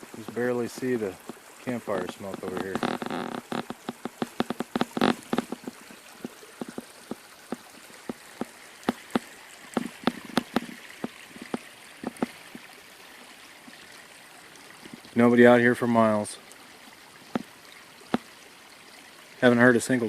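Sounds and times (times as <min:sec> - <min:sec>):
creek trickling: 0:00.0 - 0:20.0
water dripping: 0:00.0 - 0:20.0.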